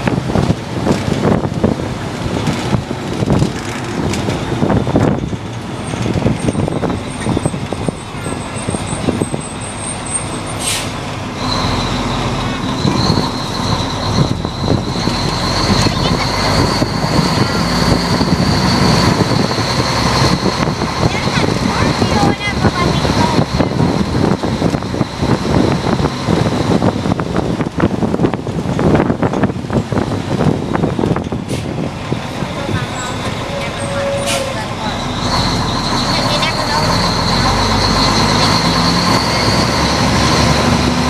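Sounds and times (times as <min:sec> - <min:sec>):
truck engine and road noise: 0:00.0 - 0:41.0.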